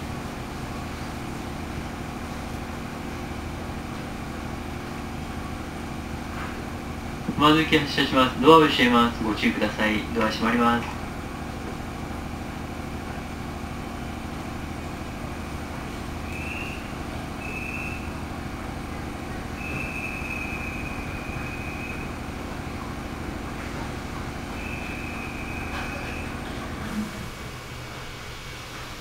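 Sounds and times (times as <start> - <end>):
steady low train hum: 0.0 - 29.0
high motor whine: 1.8 - 28.8.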